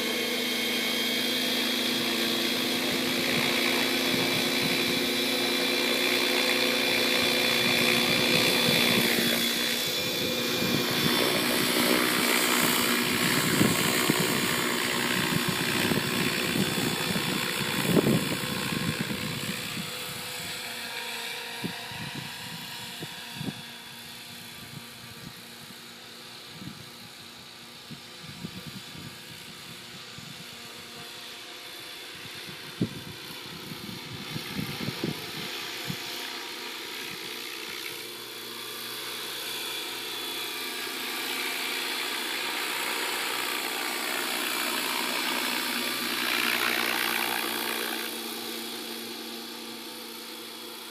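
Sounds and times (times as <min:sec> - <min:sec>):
model helicopter motor and rotor whine: 0:00.0 - 0:50.9.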